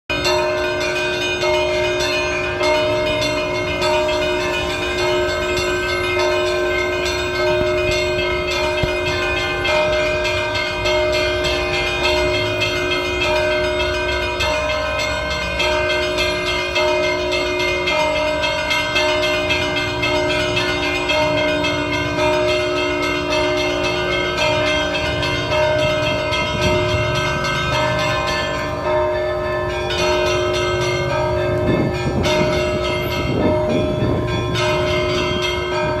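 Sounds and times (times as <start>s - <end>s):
church bells pealing: 0.1s - 36.0s.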